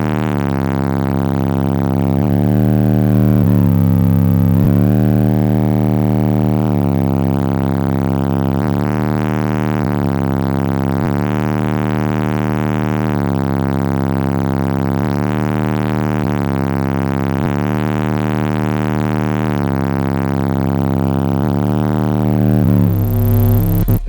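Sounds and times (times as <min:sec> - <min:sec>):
loud droning bass from subwoofers: 0:00.0 - 0:24.0.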